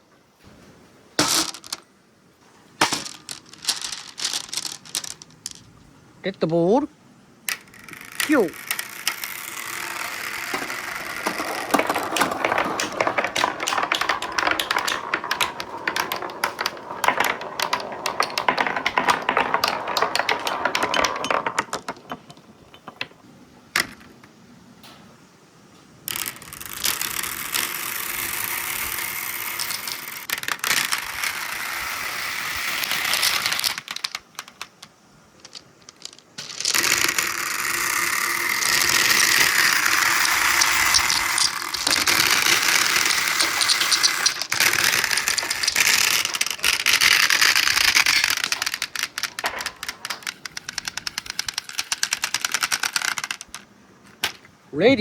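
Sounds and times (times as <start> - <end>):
marbles rolling along tracks: 1.2 - 1.9, 2.8 - 25.2, 25.8 - 55.0
marbles clicking together: 2.8 - 5.7, 7.5 - 23.2, 26.1 - 55.0.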